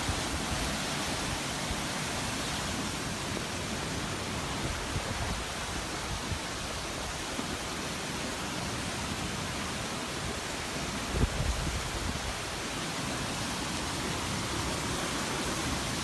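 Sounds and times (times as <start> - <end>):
water rushing down rock: 0.0 - 16.0.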